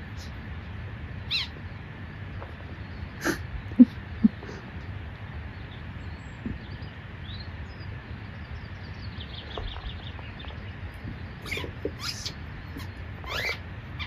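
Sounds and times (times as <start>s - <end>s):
low background noise: 0.0s - 14.0s
songbirds chirping faintly: 0.0s - 14.0s.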